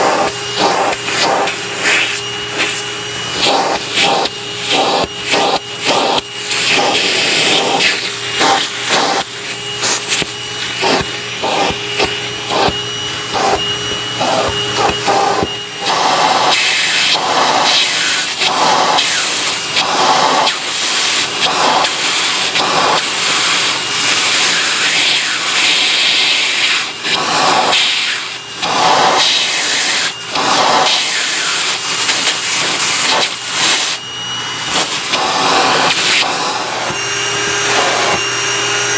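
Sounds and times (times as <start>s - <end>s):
vacuum cleaner suction hiss: 0.0s - 38.9s
vacuum motor whine: 0.0s - 38.9s
vacuum tool knocking and rubbing: 0.0s - 38.9s.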